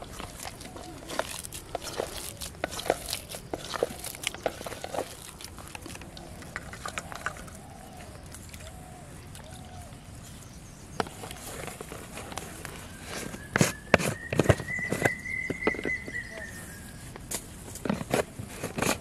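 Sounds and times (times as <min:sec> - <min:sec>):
hands kneading wet bait: 0:00.0 - 0:15.2.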